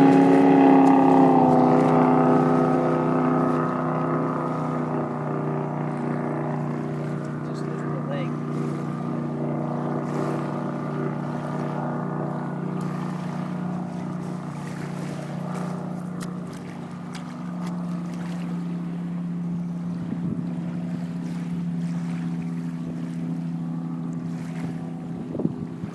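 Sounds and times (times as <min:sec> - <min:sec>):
boat engine running steadily: 0:00.0 - 0:25.9.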